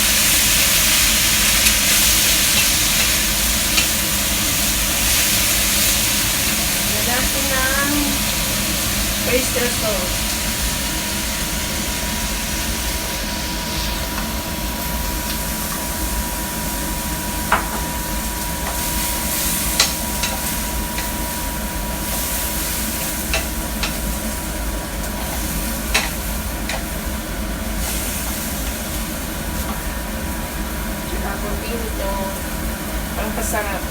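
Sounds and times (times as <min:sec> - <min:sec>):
vegetables sizzling in a pan: 0:00.0 - 0:33.9.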